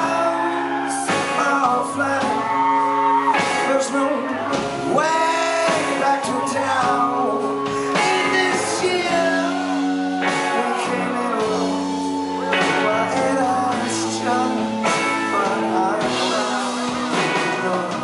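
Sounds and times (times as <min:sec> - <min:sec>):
drums: 0:00.0 - 0:18.0
electric bass: 0:00.0 - 0:18.0
man singing: 0:00.0 - 0:18.0.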